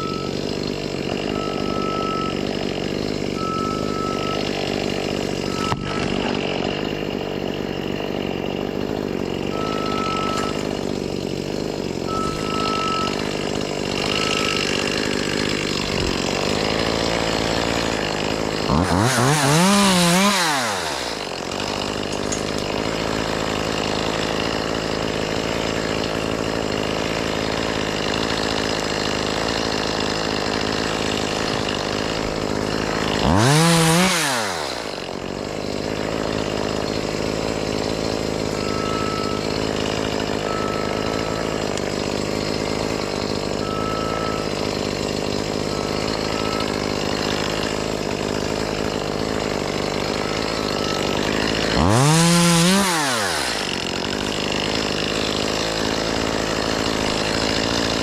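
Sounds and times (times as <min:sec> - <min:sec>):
chainsaw revving: 0:00.0 - 0:58.0
steady engine drone: 0:00.0 - 0:58.0.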